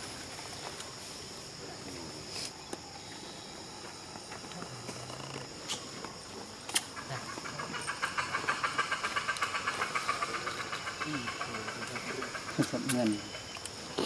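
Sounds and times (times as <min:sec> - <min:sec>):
insects buzzing: 0:00.0 - 0:14.0
rapid pulsing insect chirr: 0:00.0 - 0:14.0.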